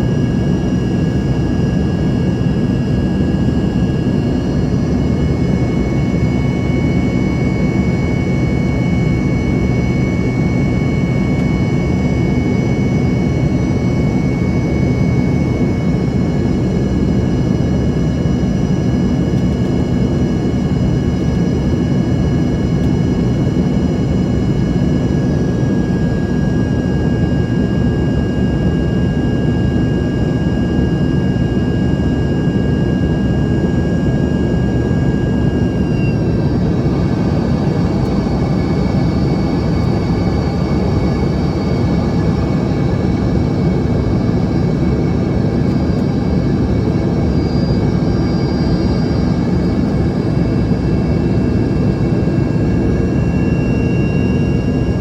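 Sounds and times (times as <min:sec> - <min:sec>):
jet engine and air rumble: 0:00.0 - 0:55.0
thin turbine whine: 0:00.0 - 0:55.0.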